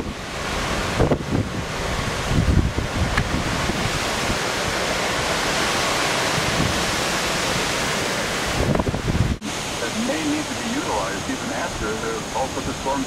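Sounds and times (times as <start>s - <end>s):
hurricane wind and water rushing: 0.0s - 13.0s
wind gusts buffeting microphone: 0.0s - 13.0s.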